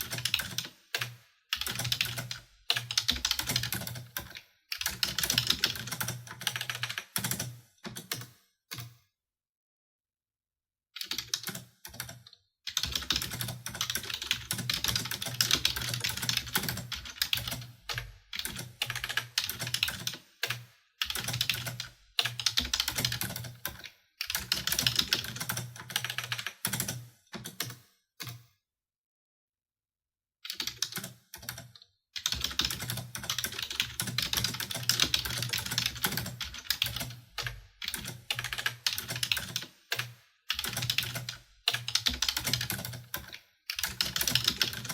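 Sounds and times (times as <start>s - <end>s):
computer keyboard typing: 0.0s - 8.9s, 11.0s - 28.4s, 30.5s - 44.9s.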